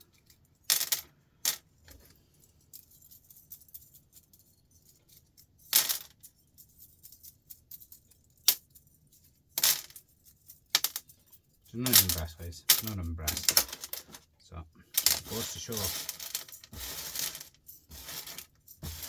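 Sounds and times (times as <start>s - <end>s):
metal connectors clinking: 1.9s - 14.3s, 14.9s - 19.0s.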